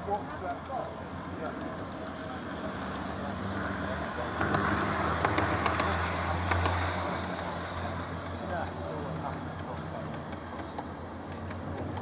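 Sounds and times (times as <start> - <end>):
wheels clicking over track: 0.0 - 12.0.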